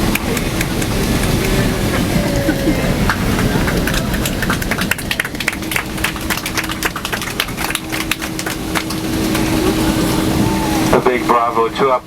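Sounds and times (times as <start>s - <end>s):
passengers clapping: 0.0s - 11.0s
low rumble of plane rollout: 0.0s - 12.0s.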